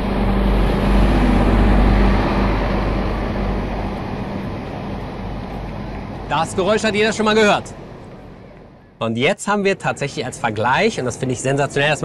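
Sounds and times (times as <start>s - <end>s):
truck engine drone passing: 0.0s - 12.0s.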